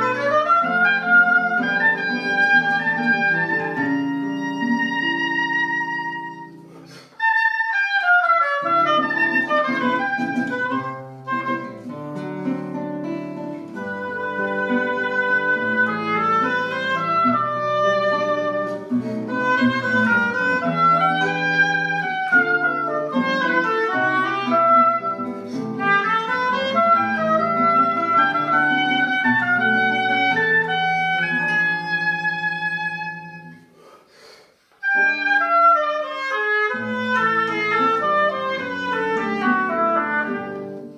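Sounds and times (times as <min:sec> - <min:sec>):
plucked classical guitar: 0:00.0 - 0:33.6, 0:34.8 - 0:40.9
woodwind melody: 0:00.0 - 0:33.9, 0:34.8 - 0:40.9.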